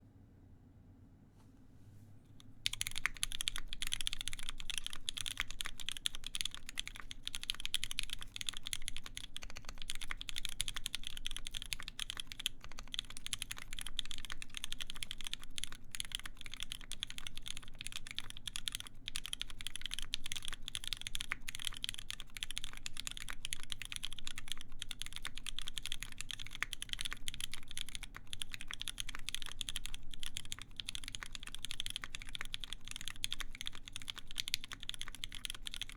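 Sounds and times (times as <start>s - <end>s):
typing on mechanical keyboard: 2.7s - 35.9s.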